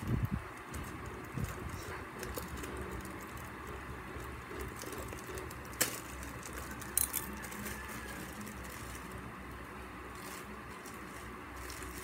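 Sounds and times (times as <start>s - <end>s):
hands handling plastic packaging: 0.0s - 12.0s
low background hum: 0.0s - 12.0s.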